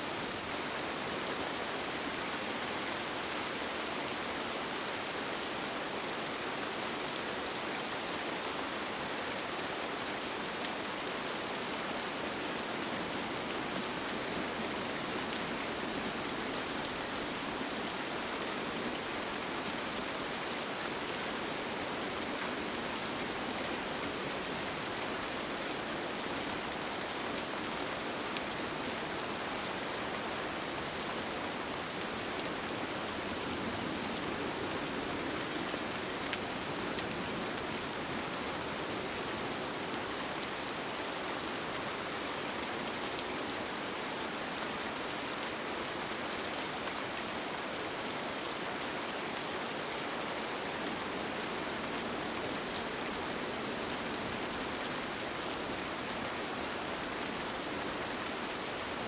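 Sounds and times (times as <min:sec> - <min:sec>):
rain pattering on a tent: 0:00.0 - 0:59.0.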